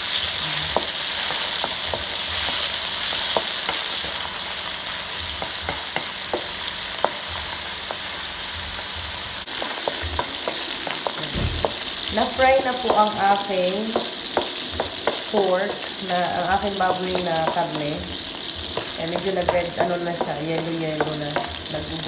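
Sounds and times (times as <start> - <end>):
meat sizzling in oil: 0.0 - 22.0.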